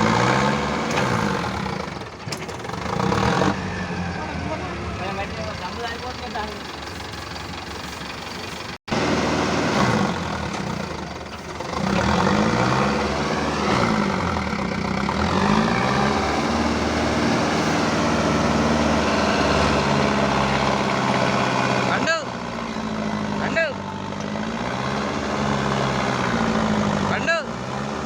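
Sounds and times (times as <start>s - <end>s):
heavy diesel engine running hard: 0.0s - 28.0s.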